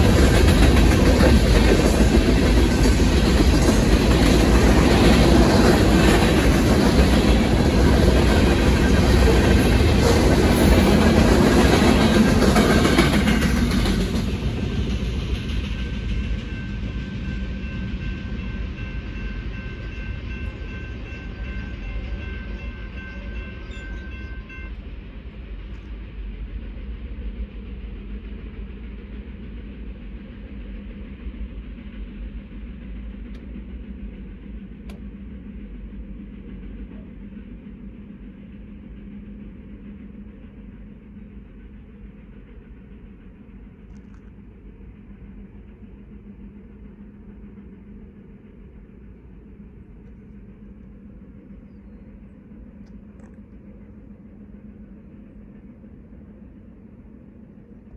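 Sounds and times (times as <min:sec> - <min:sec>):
freight train rumble: 0:00.0 - 0:57.9.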